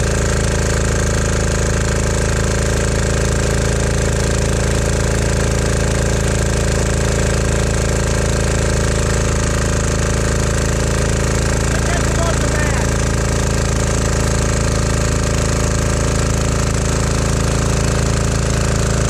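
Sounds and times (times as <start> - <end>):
diesel generator running: 0.0 - 19.0.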